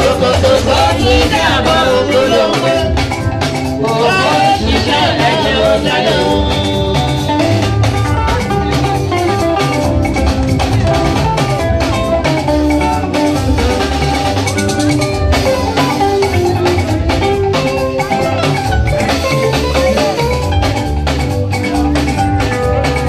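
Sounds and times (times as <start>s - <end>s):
drums and percussion: 0.0s - 23.0s
melodic instrument lines: 0.0s - 23.0s.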